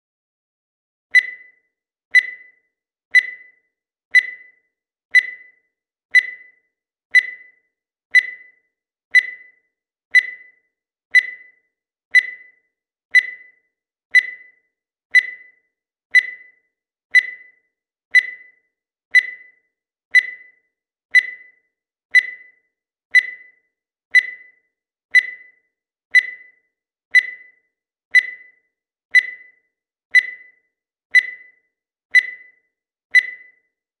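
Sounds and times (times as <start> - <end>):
digital timer beeping: 1.1 - 33.9.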